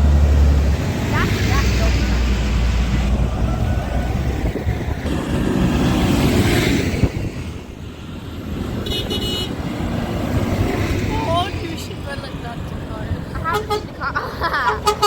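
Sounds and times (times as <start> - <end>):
tractor engines rumbling: 0.0 - 15.0
wind buffeting microphone: 0.3 - 13.7.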